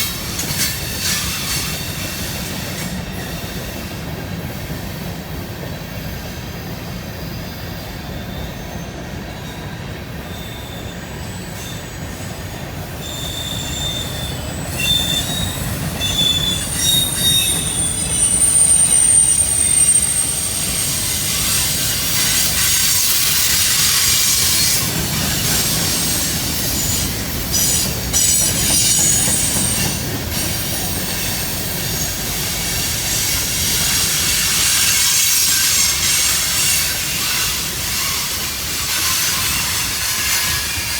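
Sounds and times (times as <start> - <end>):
freight train cars rumbling: 0.0 - 40.9
steel wheels squealing on rail: 0.0 - 40.9.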